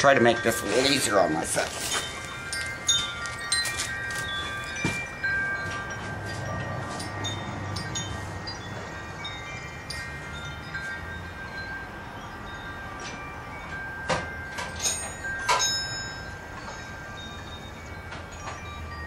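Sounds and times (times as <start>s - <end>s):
chime-like ringing tones: 0.0s - 19.0s
metal tools clinking on concrete: 0.0s - 19.0s.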